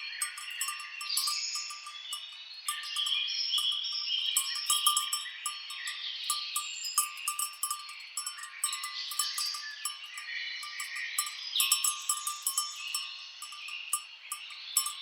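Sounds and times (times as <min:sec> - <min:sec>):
birds chirping: 0:00.0 - 0:15.0
cow bells clinking: 0:00.0 - 0:15.0.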